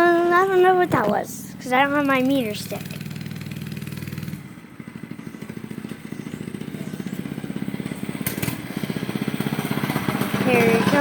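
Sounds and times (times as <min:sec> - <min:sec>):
mini bike engine running: 0:00.0 - 0:11.0.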